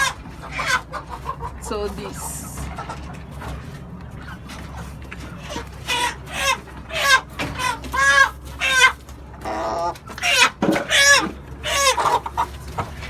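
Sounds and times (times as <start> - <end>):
chickens squawking: 0.0 - 13.0.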